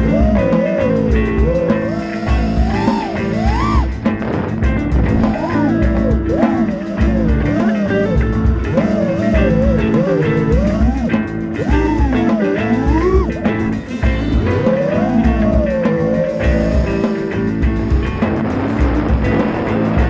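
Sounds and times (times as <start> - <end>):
guitar with bass and beat: 0.0 - 20.0.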